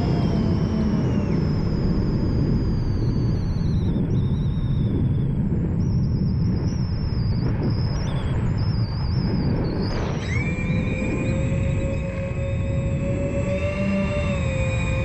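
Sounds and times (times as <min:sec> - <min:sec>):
quadcopter motor whine: 0:00.0 - 0:15.0
wind and prop wash rumble: 0:00.0 - 0:15.0.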